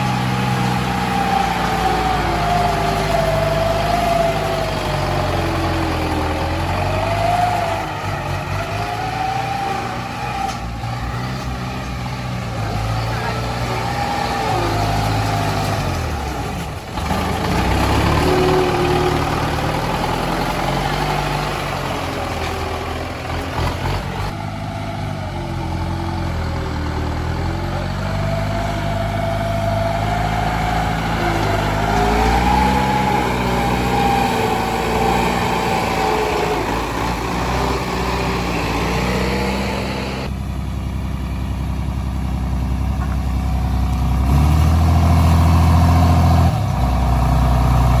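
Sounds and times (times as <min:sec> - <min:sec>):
diesel engine revving: 0:00.0 - 0:48.0.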